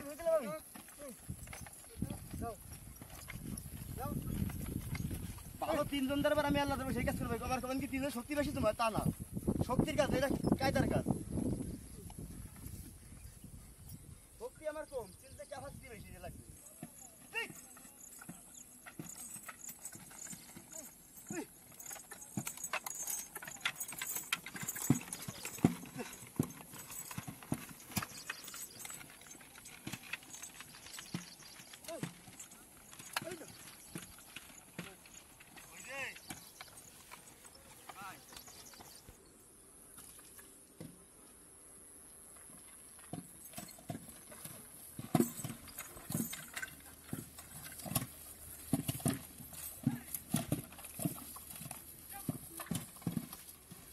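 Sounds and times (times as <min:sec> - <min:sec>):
horse hooves clip-clopping on dirt: 0:00.0 - 0:41.1, 0:42.2 - 0:53.9.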